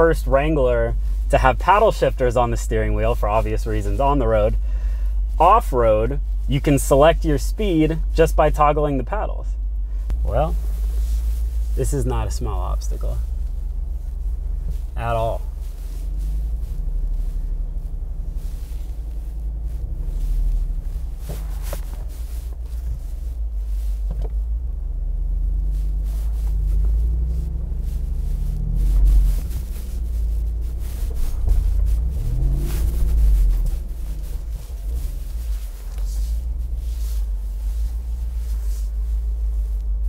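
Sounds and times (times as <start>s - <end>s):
engine running at low revs: 0.0s - 40.0s.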